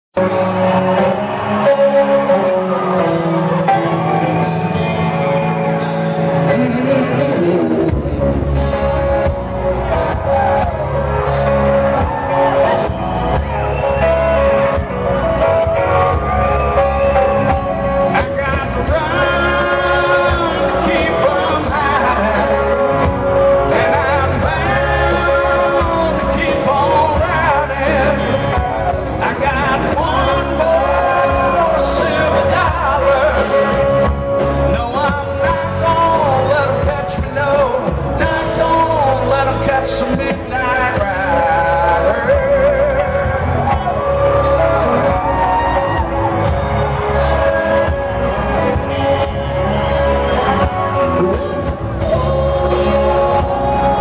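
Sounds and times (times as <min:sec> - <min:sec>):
bass and drums: 0:00.1 - 0:54.0
electric and acoustic guitars: 0:00.2 - 0:54.0
lead singer singing: 0:00.2 - 0:54.0.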